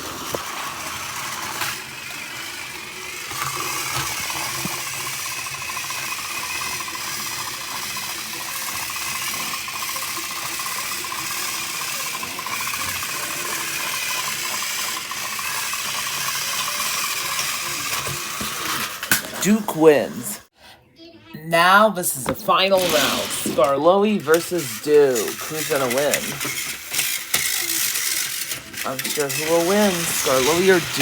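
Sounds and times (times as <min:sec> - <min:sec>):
plastic gears rattling: 0:00.0 - 0:19.4, 0:22.7 - 0:31.0
toy train motors whirring: 0:00.0 - 0:20.5, 0:22.3 - 0:31.0.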